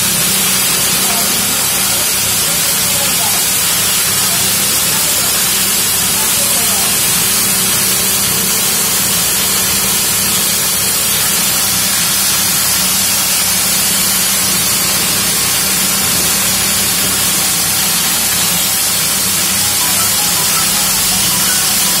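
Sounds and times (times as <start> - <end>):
grain grinder hissing rush: 0.0 - 22.0.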